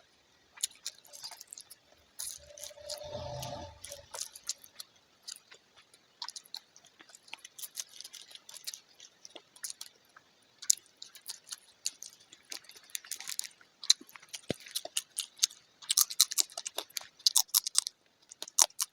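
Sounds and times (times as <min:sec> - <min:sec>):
person chewing food: 0:00.6 - 0:18.9.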